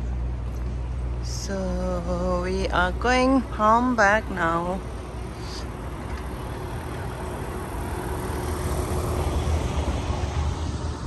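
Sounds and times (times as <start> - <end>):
car engine and road noise: 0.0 - 11.0
faint hum: 0.0 - 11.0.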